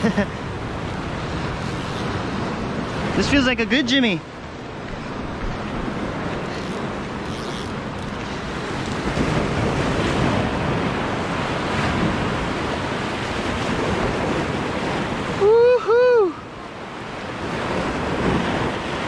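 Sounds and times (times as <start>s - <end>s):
wind on microphone: 0.0s - 3.2s, 4.3s - 19.0s
ocean surf breaking on rocks: 0.0s - 19.0s.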